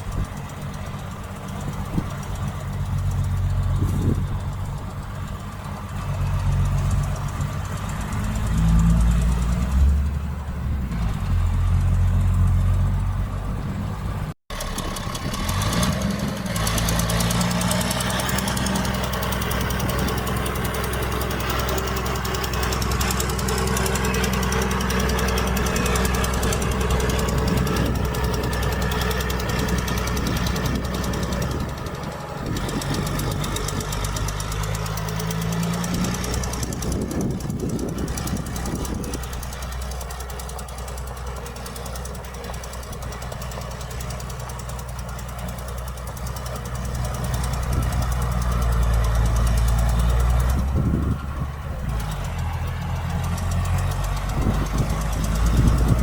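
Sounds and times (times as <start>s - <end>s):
heavy diesel engine running: 0.0s - 56.0s
engine revving up: 1.3s - 13.6s, 14.2s - 56.0s.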